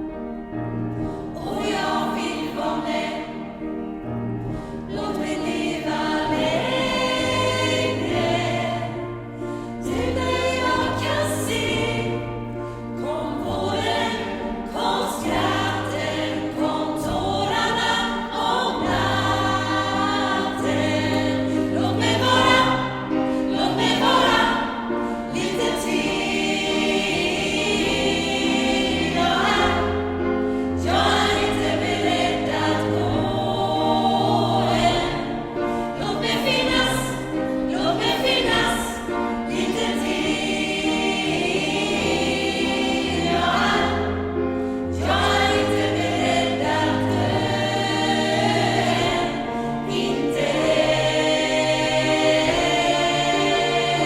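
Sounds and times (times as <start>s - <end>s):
gospel choir singing: 0.0s - 54.0s.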